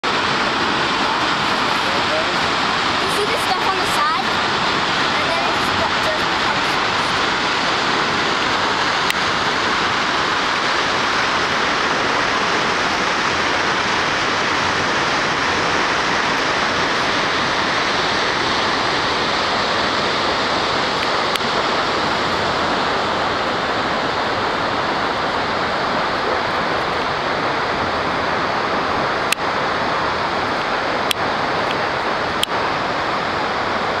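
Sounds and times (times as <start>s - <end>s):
waterfall rushing water roar: 0.0s - 34.0s.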